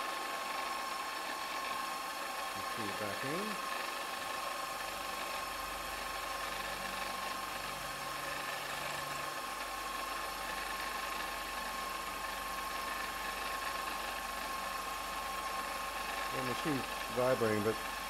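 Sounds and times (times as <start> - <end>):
end mill cutting plastic: 0.0 - 18.0
milling machine spindle whine: 0.0 - 18.0.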